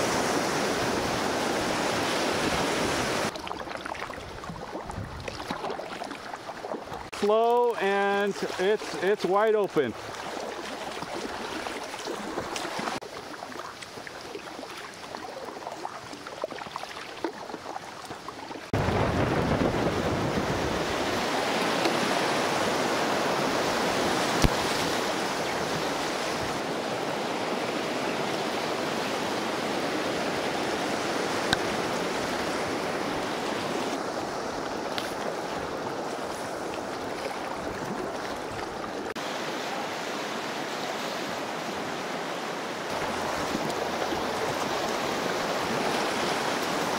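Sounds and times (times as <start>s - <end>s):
river water rushing and splashing: 0.0s - 46.9s.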